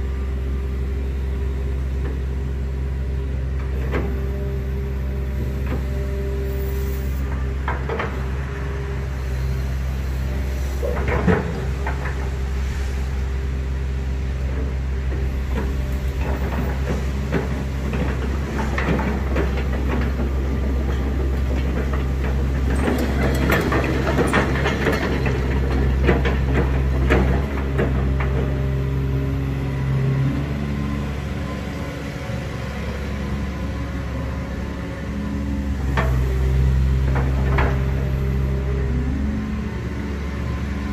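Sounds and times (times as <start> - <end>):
excavator engine and hydraulics: 0.0 - 40.9.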